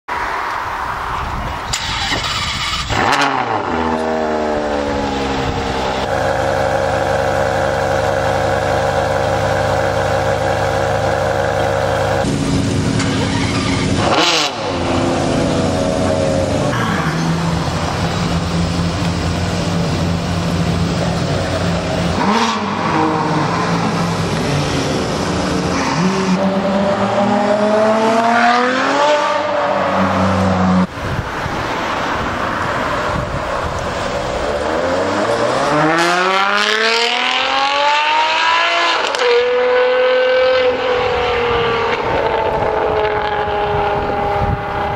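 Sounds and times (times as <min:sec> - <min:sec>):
car engine idling and revving: 0:01.3 - 0:44.9.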